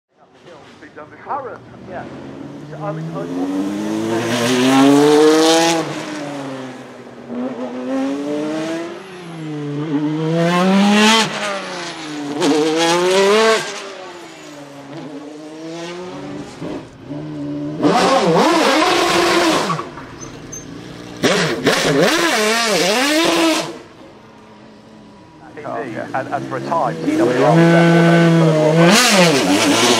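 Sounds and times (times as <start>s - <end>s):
car engine accelerating: 0.8s - 29.9s
engine revving: 0.9s - 29.9s.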